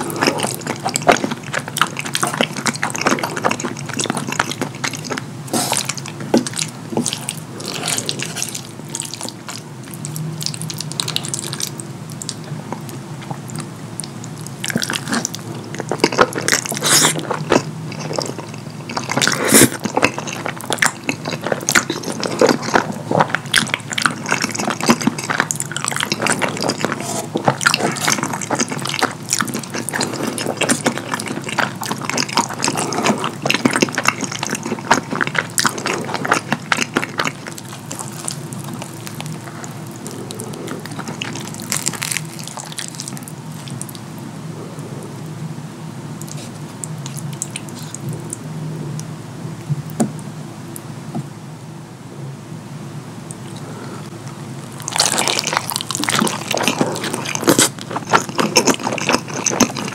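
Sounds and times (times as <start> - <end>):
wet chewing and slurping: 0.0 - 45.3, 46.2 - 49.1, 53.3 - 59.9.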